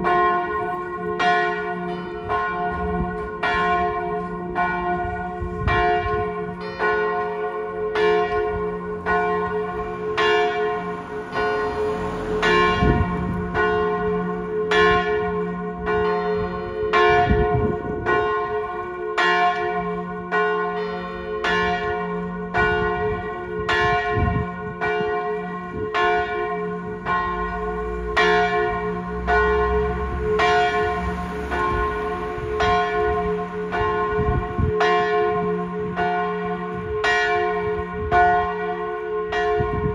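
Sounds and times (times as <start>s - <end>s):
large church bell pealing: 0.0s - 39.9s
smaller bell tolling: 0.0s - 39.9s.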